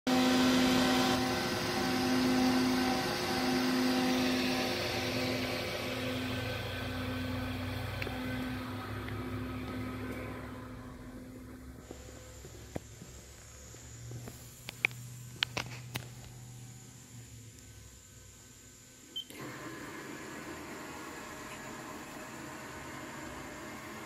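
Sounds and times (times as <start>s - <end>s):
steady hiss: 2.0s - 24.0s.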